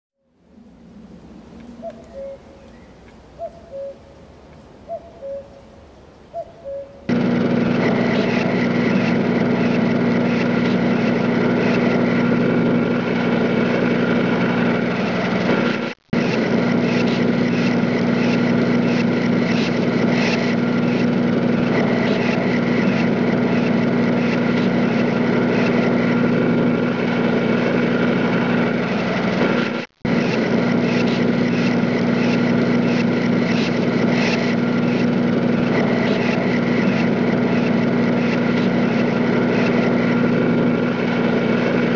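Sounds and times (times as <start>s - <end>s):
motor engine running steadily: 0.2s - 41.9s.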